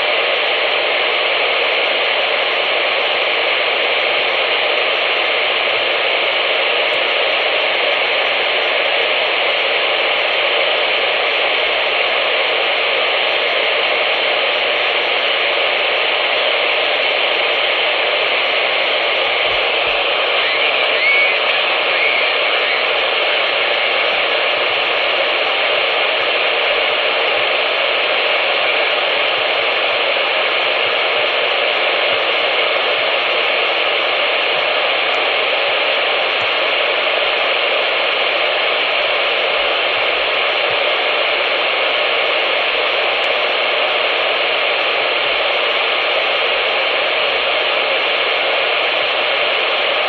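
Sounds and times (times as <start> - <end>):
radio static hiss: 0.0 - 50.0.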